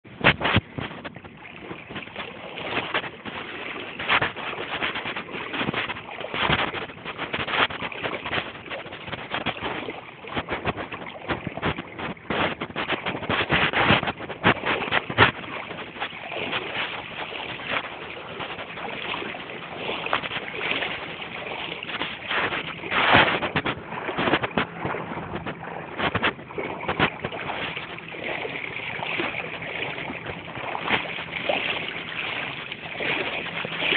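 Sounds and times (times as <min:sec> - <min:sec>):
floodwater rushing and splashing: 0:00.0 - 0:33.9.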